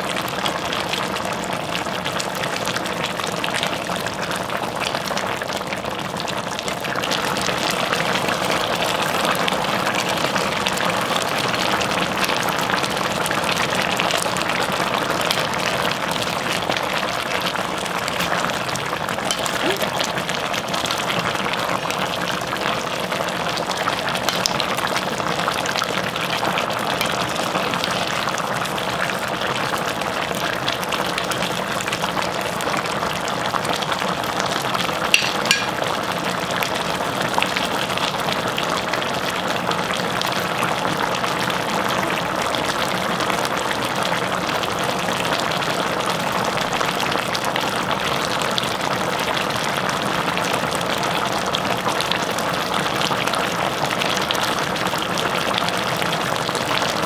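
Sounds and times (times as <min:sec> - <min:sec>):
pot boiling and bubbling: 0:00.0 - 0:57.0.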